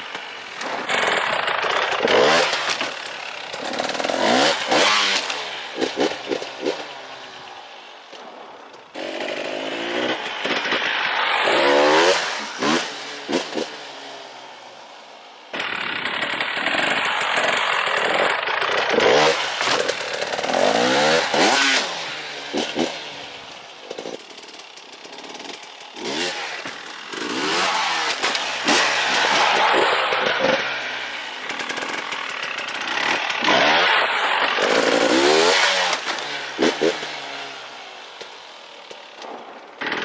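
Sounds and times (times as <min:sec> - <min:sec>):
dirt bike engine revving: 0:00.1 - 0:40.0.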